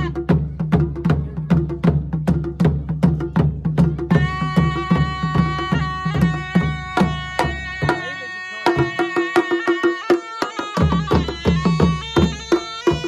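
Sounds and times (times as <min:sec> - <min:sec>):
drums beating: 0:00.0 - 0:13.0
shawm playing melody: 0:00.0 - 0:13.0.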